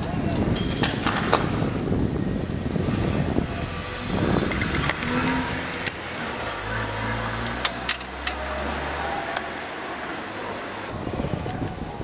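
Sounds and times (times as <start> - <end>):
car engine rumbling: 1.2 - 12.0.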